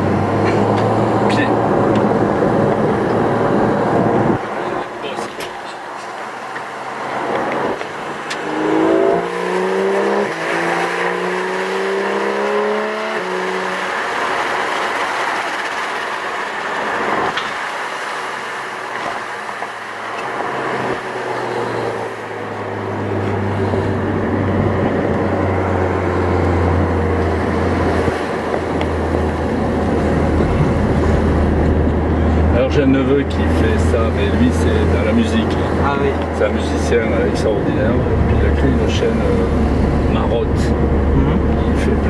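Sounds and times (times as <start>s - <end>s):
car engine accelerating hard: 0.0s - 42.0s
road and wind noise: 0.0s - 42.0s.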